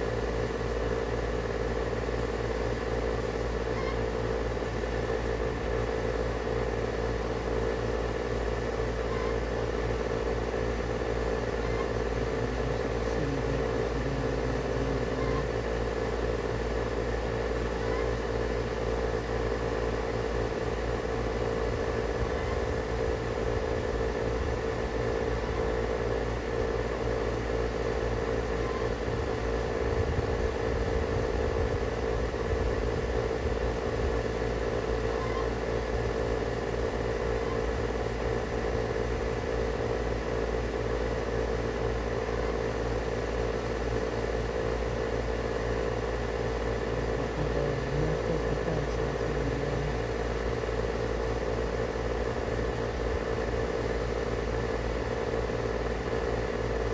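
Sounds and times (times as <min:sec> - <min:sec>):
machine hum: 0:00.0 - 0:56.9.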